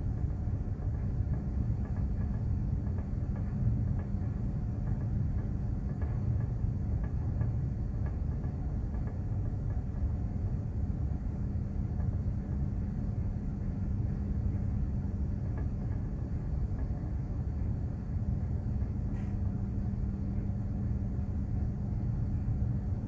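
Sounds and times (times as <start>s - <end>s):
ship engine rumble and hum: 0.0s - 23.0s.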